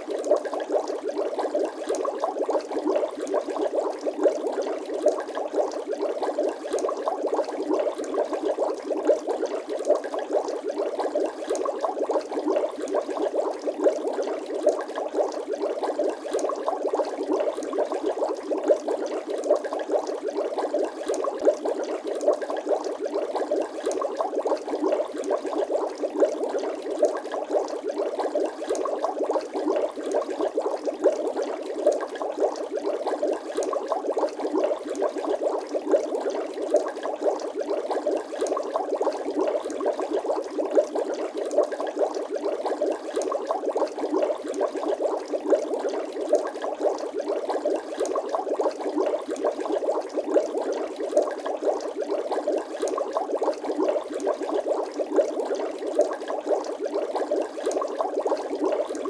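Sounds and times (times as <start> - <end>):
water bubbling and gurgling: 0.0 - 59.0.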